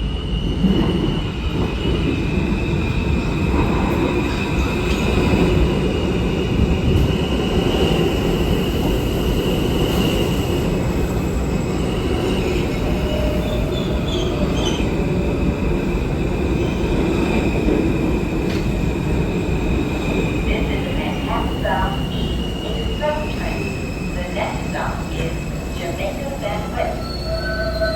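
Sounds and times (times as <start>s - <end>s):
rumble of wheels on rail: 0.0s - 27.9s.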